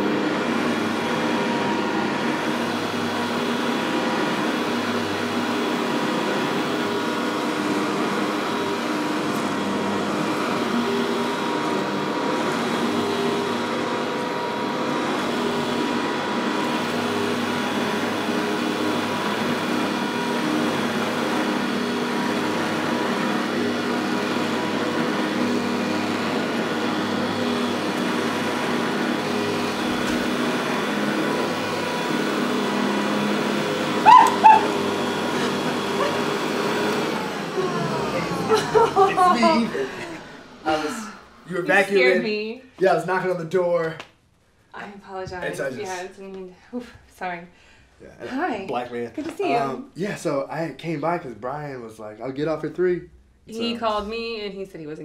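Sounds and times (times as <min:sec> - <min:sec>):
vacuum cleaner running: 0:00.0 - 0:43.7, 0:44.8 - 0:52.6, 0:53.5 - 0:55.0.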